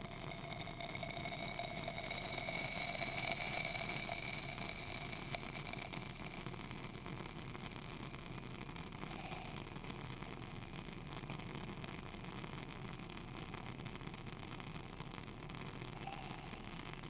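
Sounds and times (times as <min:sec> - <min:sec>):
burner flame hissing: 0:00.0 - 0:14.2.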